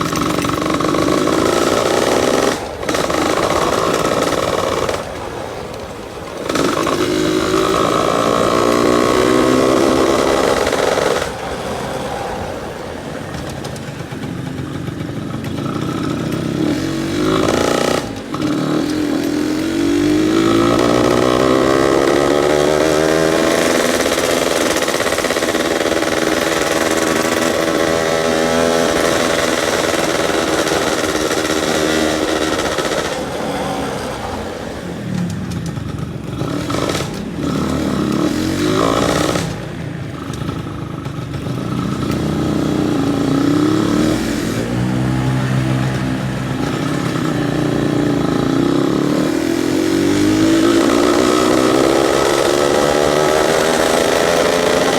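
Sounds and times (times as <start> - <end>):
two-stroke engine revving: 0.0 - 54.9.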